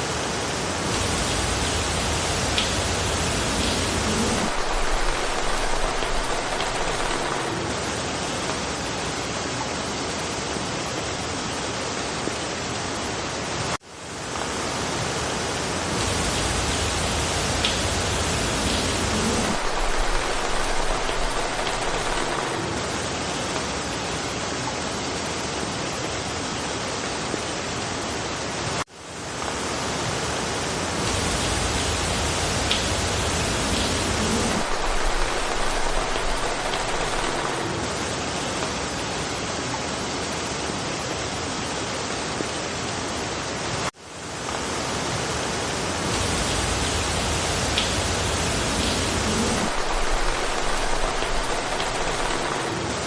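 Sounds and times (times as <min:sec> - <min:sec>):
rain falling in forest: 0:00.0 - 0:53.0.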